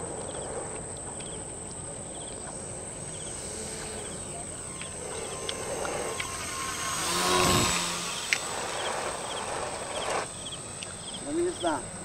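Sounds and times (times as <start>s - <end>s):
insects chirping: 0.0s - 12.0s
model plane passing over: 0.0s - 12.0s.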